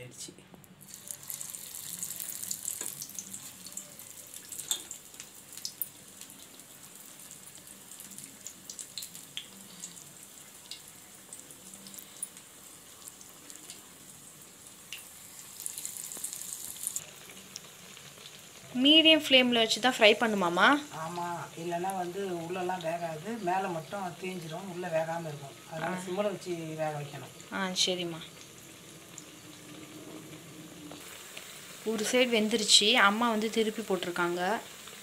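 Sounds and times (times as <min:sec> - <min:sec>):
food sizzling in hot oil: 0:00.8 - 0:35.0
oil popping and crackling: 0:00.8 - 0:35.0.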